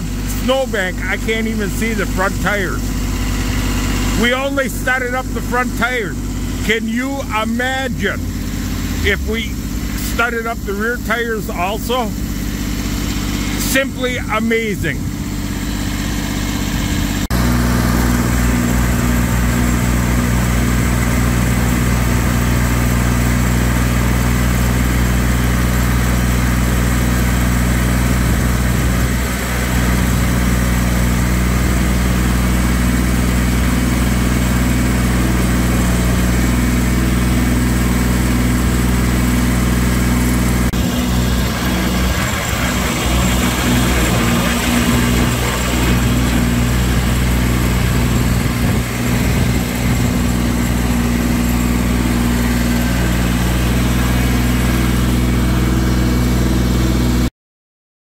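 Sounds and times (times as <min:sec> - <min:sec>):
tractor engine running: 0:00.0 - 0:57.3.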